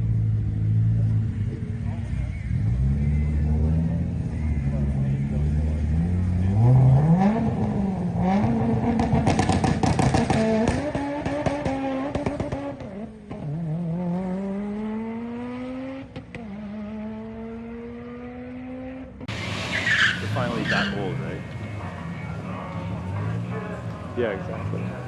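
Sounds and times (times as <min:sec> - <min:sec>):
car engine at full throttle: 0:00.0 - 0:25.0.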